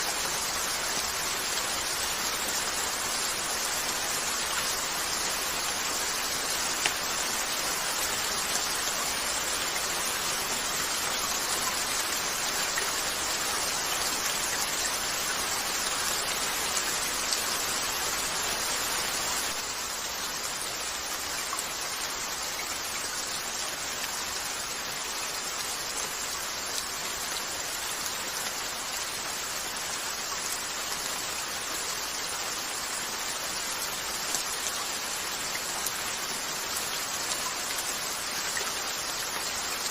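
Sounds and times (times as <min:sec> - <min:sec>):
rain on a window: 0:00.0 - 0:39.9
sharp rain ticks: 0:00.0 - 0:39.9.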